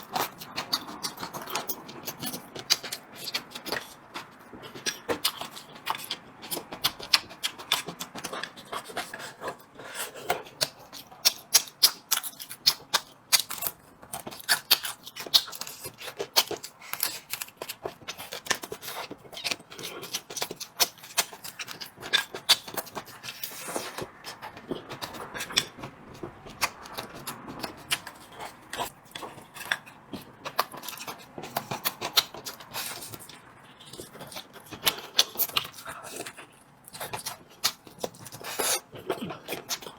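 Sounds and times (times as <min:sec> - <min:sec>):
chewing and mouth smacking: 0:00.0 - 0:39.9.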